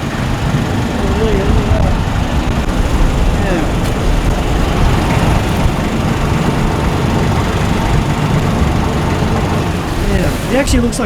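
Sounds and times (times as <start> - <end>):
engine running: 0.0 - 11.0
hiss: 0.0 - 11.0.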